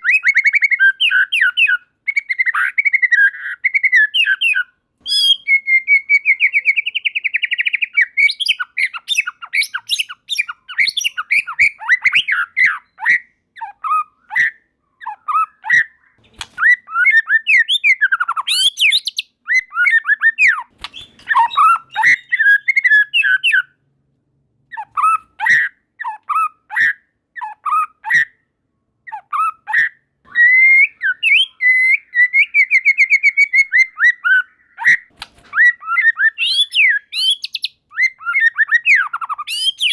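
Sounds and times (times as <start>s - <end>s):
bird singing whistled song: 0.0s - 23.8s, 29.1s - 39.9s.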